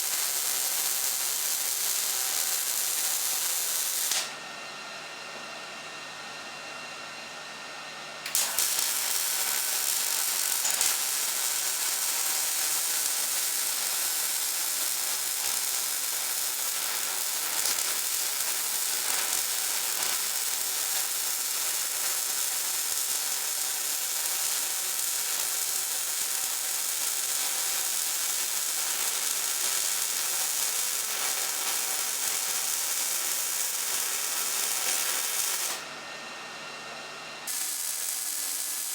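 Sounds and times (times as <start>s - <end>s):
welding arc crackling hiss: 0.0s - 4.4s, 8.3s - 35.9s, 37.4s - 38.9s.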